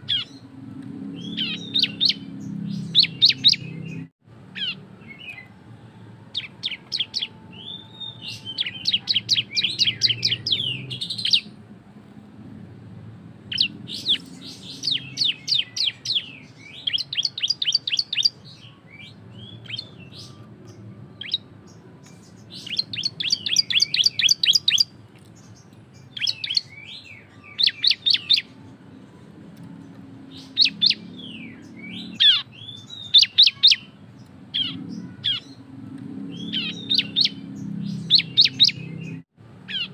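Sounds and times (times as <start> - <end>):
bird singing rapid trills: 0.0 - 0.5, 1.1 - 5.5, 6.3 - 11.6, 13.5 - 28.6, 30.2 - 39.9.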